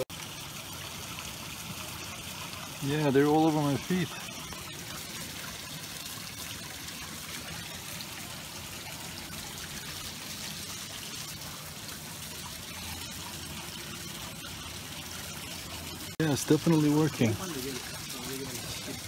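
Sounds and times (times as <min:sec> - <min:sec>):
water trickling into rock pool: 0:00.0 - 0:19.0.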